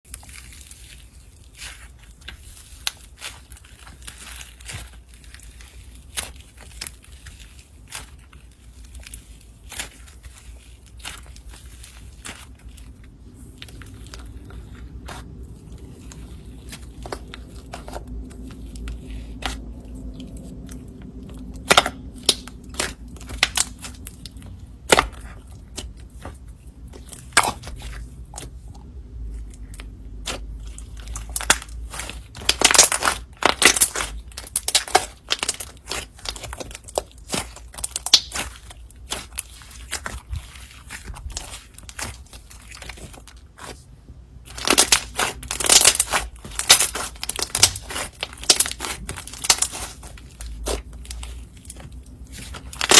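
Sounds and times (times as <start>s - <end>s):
sticky slime clicks and crackles: 0.1s - 28.8s, 29.4s - 43.8s, 44.4s - 52.9s.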